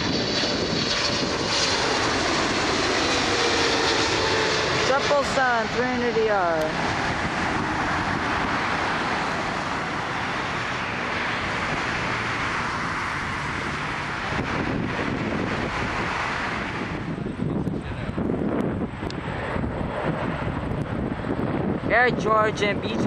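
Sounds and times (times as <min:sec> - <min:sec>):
jet airliner roar: 0:00.0 - 0:23.0.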